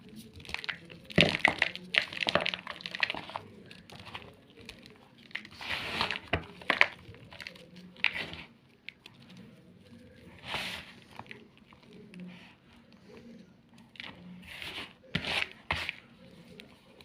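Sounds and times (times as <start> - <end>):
chalk block crunching: 0.0 - 11.9, 14.0 - 17.0.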